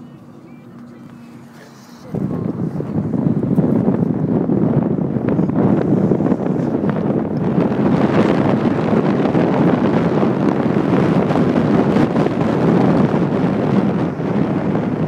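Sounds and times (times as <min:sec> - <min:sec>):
car road noise: 0:00.0 - 0:15.0
wind buffeting microphone: 0:00.0 - 0:15.0.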